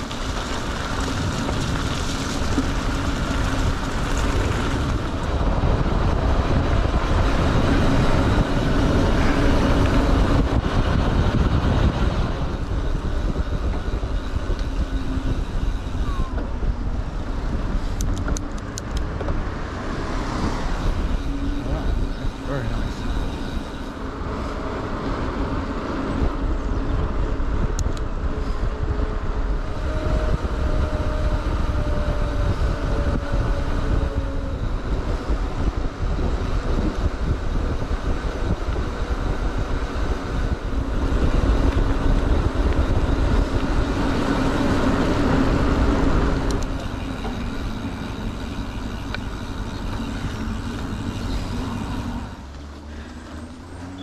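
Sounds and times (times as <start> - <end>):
bike tyres rumbling on tarmac: 0.0 - 54.0
wind rushing over microphone: 0.0 - 54.0.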